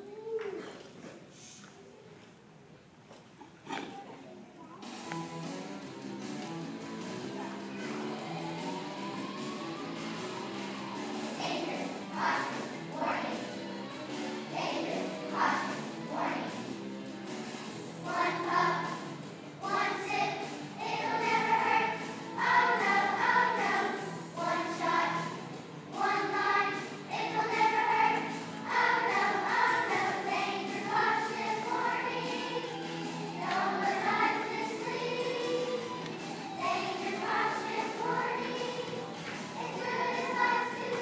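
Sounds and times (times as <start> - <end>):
musical accompaniment: 4.8 - 41.0
children's choir singing: 6.6 - 41.0.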